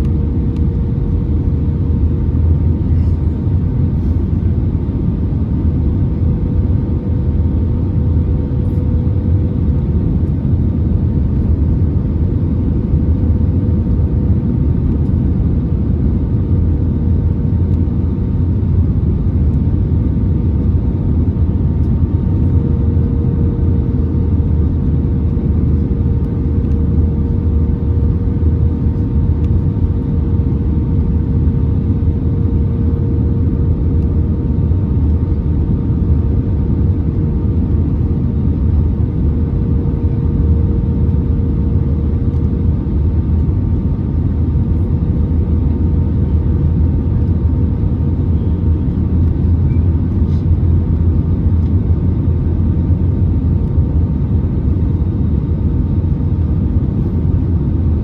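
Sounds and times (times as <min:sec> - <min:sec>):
aircraft cabin engine rumble: 0:00.0 - 0:58.0
steady whine: 0:00.0 - 0:58.0.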